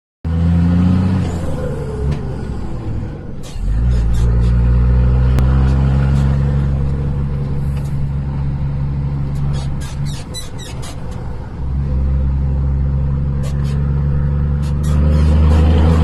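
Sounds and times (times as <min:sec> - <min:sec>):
truck diesel engine revving: 0:00.3 - 0:16.0.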